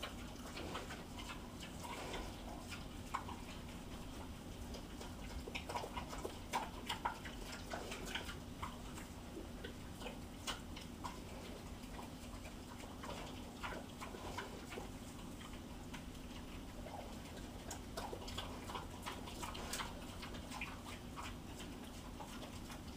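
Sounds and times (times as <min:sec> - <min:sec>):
pigs chewing and smacking: 0:00.0 - 0:22.9.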